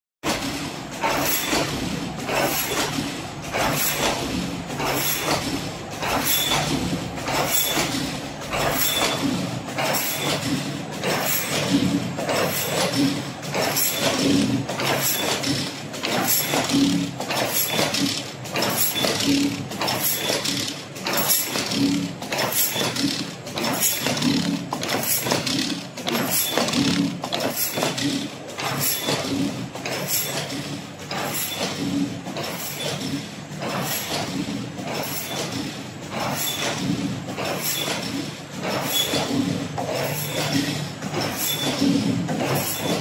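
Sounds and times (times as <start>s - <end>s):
steady machine noise: 0.2s - 43.0s
mesh machine clattering: 0.3s - 43.0s.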